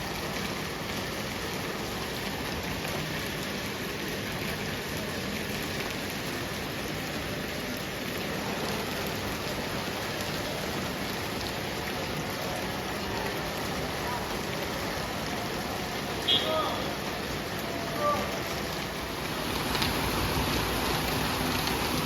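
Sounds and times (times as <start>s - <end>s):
steady rain pattering: 0.0s - 22.0s.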